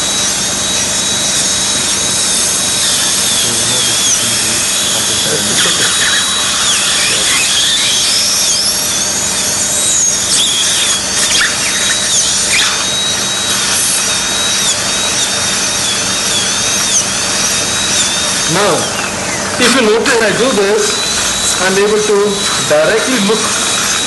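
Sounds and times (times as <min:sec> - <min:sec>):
dental drill whining: 0:00.0 - 0:24.0.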